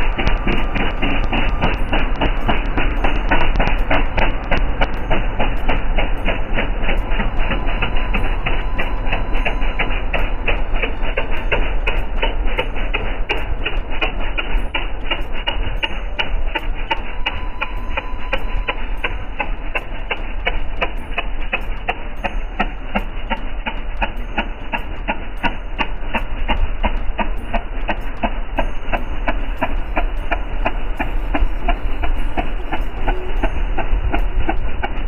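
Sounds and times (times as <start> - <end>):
boat engine rhythmic knocking: 0.0 - 35.0.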